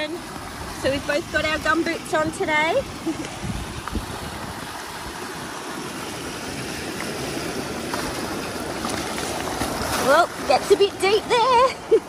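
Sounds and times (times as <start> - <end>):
boots wading through water: 0.0 - 12.0
creek water rushing: 0.0 - 12.0.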